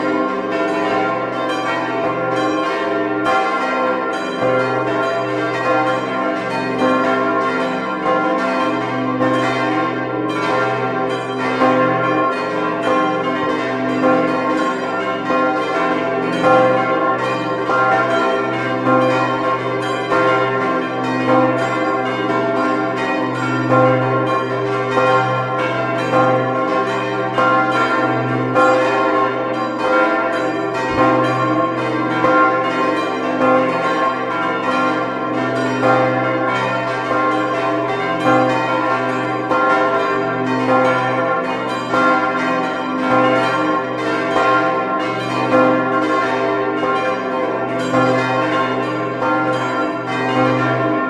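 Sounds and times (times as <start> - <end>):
church bells ringing in peal: 0.0 - 51.0.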